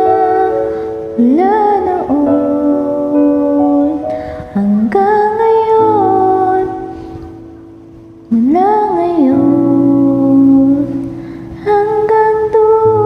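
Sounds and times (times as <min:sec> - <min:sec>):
soft backing track: 0:00.0 - 0:13.0.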